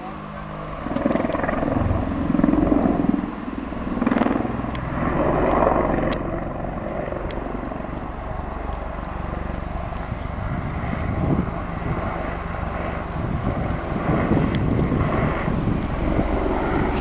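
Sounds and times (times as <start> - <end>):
helicopter flying past: 0.0 - 17.0.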